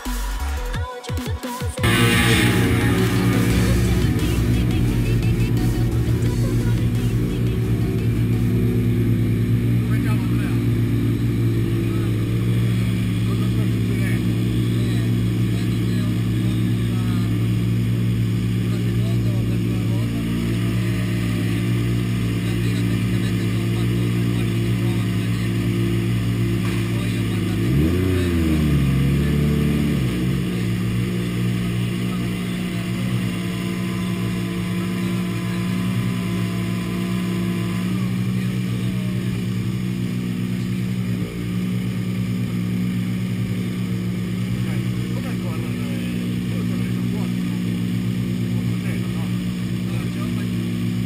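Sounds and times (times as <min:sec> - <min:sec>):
car engine idling: 0:01.8 - 0:51.0.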